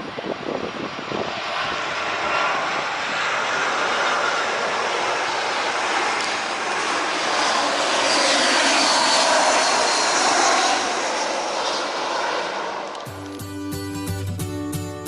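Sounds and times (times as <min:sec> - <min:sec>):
jet airliner passing overhead: 0:00.0 - 0:13.1
jet engine whine falling: 0:00.0 - 0:13.4.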